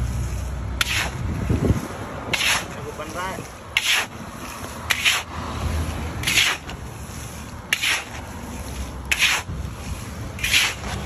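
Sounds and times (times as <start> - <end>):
sand pouring through mesh: 0.0 - 11.0
sieve ladle scraping through sand: 0.0 - 11.0.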